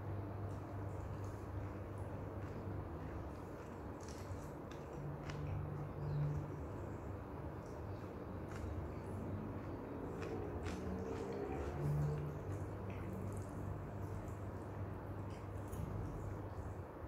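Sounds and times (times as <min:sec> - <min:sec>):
person chewing: 0:00.9 - 0:06.5, 0:07.9 - 0:16.3.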